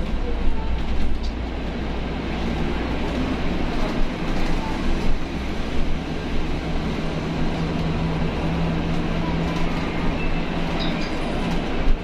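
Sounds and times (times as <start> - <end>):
bus road rumble: 0.0 - 12.0.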